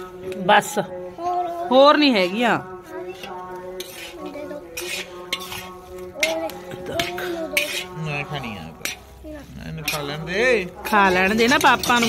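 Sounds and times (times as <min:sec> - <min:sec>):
metal spoon scraping a pan: 0:00.0 - 0:12.0.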